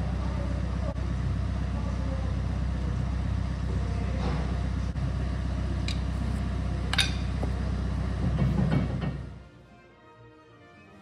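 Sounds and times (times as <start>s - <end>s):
low mechanical hum: 0.0s - 9.8s.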